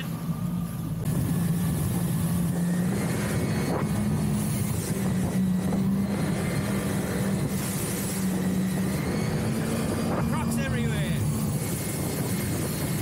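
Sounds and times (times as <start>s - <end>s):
jet ski engine drone: 0.0s - 13.0s.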